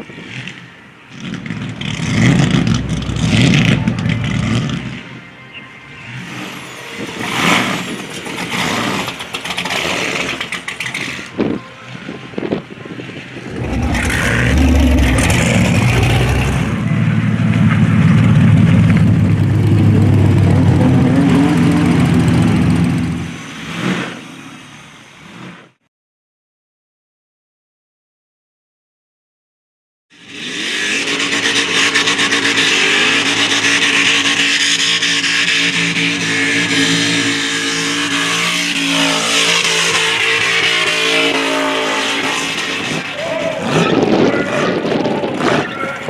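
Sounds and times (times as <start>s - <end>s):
car engines revving: 0.0s - 25.7s, 30.2s - 46.0s.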